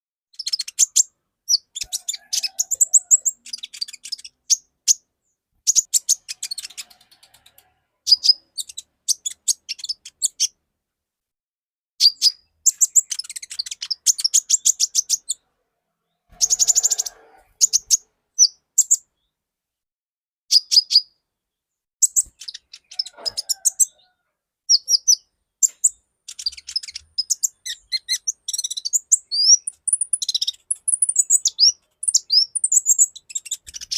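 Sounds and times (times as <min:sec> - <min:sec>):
bird chirping and trilling: 0:00.4 - 0:10.6, 0:12.0 - 0:19.3, 0:20.5 - 0:21.2, 0:22.0 - 0:33.9.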